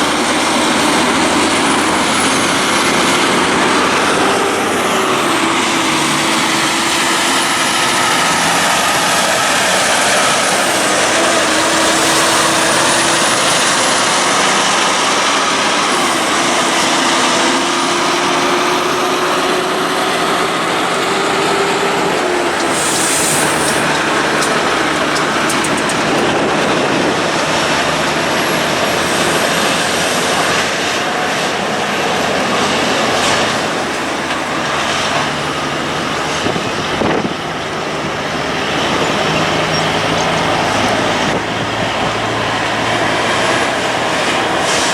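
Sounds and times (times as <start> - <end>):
heavy diesel engines under load: 0.0 - 44.9
tyres rumbling: 0.0 - 44.9.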